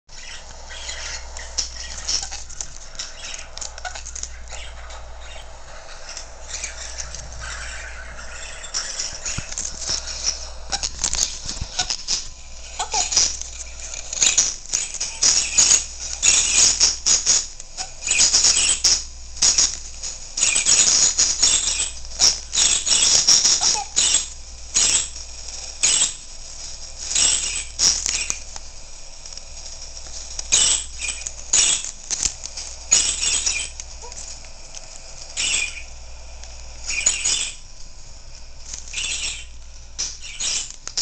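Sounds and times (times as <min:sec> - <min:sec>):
parrot wings flapping: 0:00.1 - 0:41.0.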